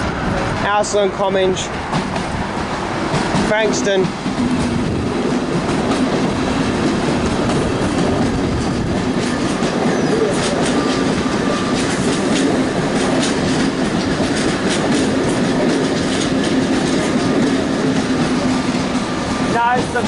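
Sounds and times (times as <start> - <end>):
train rumble: 0.0 - 20.0
train wheels clicking over rail joints: 1.6 - 20.0.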